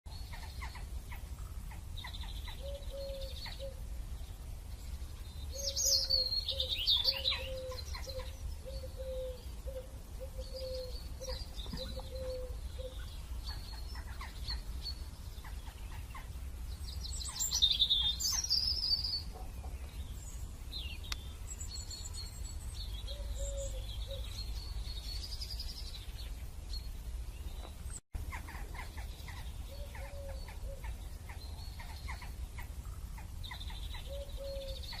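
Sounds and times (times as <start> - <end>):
repeated low bird call: 0.1 - 4.4, 5.0 - 26.9, 27.5 - 35.0
birds chirping: 0.1 - 35.0.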